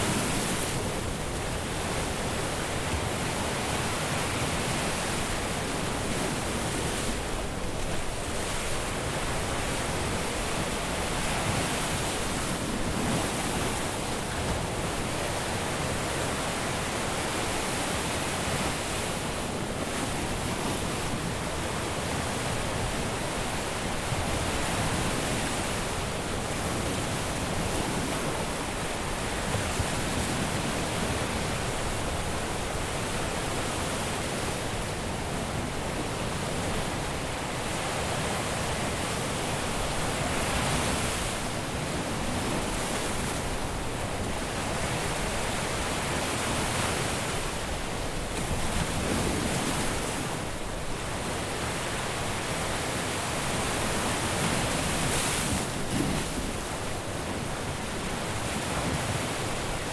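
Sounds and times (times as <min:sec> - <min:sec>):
surf breaking on a beach: 0:00.0 - 0:59.9.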